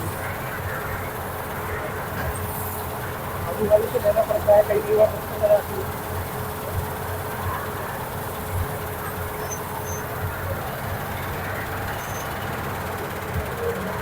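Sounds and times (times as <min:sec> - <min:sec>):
faint steady whine: 0:00.0 - 0:14.0
farm machine engine running: 0:00.0 - 0:14.0.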